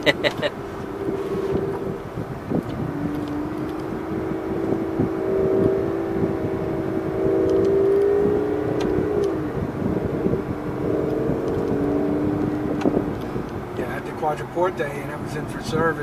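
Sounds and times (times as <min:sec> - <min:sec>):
car engine pulling at low speed: 0:00.0 - 0:16.0.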